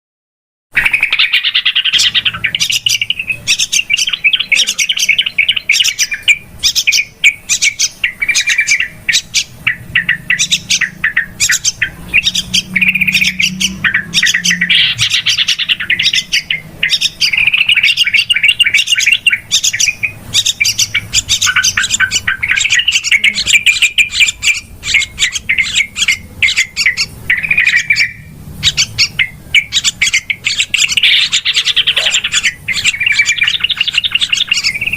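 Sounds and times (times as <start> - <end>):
bulbuls chattering: 0.7 - 34.9.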